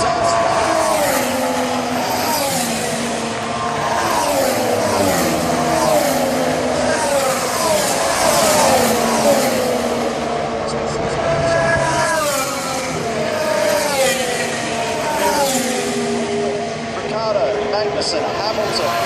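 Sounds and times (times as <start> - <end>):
racing car engine at high revs: 0.0 - 19.0.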